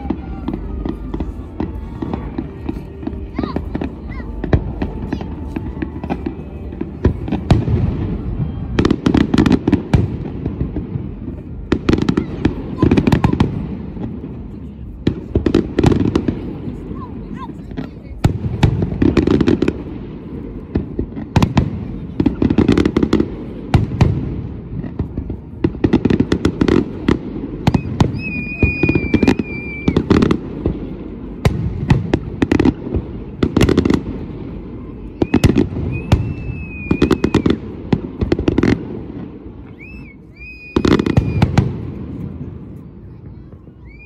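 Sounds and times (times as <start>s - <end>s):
fireworks bangs and crackling: 0.0s - 44.0s.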